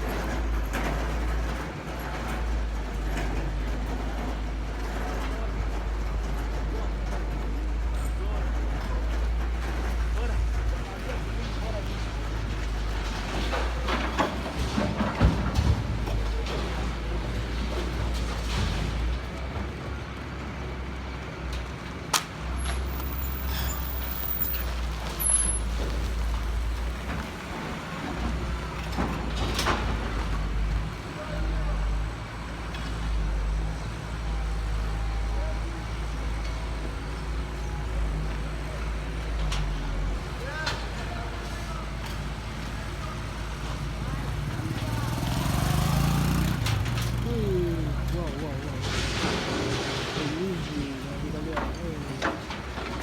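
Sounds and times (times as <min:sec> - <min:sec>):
heavy machine engine rumbling: 0:00.0 - 0:53.0.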